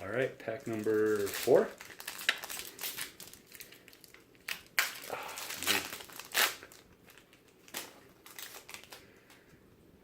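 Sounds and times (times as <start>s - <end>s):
wrapper tearing and crinkling: 0.4s - 9.2s.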